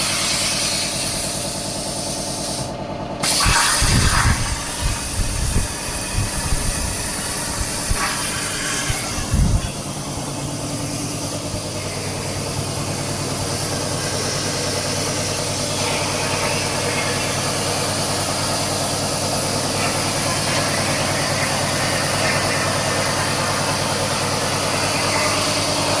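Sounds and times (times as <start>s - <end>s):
constant machine hum: 0.0s - 26.0s
plasma arc hissing: 0.0s - 26.0s.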